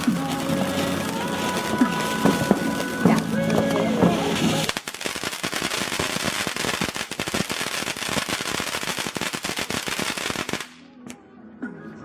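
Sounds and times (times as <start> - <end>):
fireworks crackling: 0.0 - 11.1.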